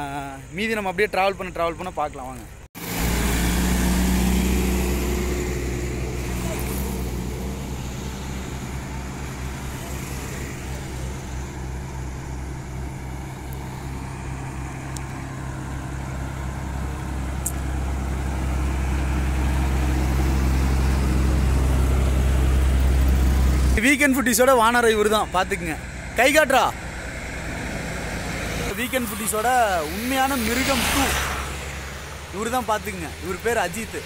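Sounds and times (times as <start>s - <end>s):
highway traffic hum: 0.0s - 34.0s
motorcycle passing: 2.8s - 24.4s, 25.3s - 33.2s
motorcycle approaching: 2.8s - 34.0s.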